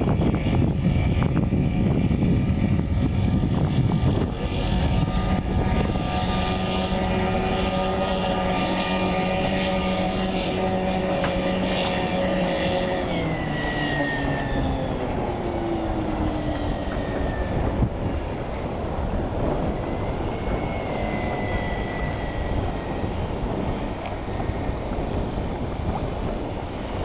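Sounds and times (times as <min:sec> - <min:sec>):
boat motor running: 0:00.0 - 0:27.0
wind noise: 0:00.0 - 0:27.0.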